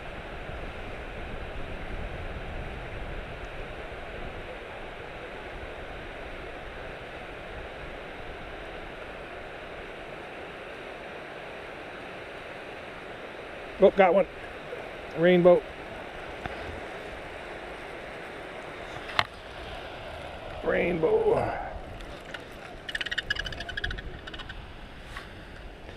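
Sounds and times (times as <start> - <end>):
rushing water: 0.0 - 25.9
wind: 0.0 - 25.9.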